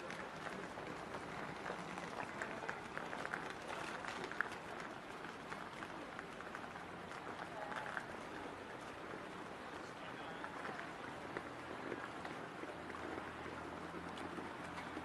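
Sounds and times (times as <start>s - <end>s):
water lapping against boats: 0.0s - 15.0s.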